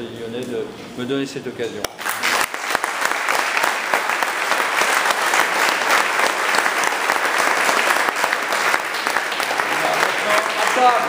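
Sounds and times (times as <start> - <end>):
crowd applauding: 2.0 - 11.0.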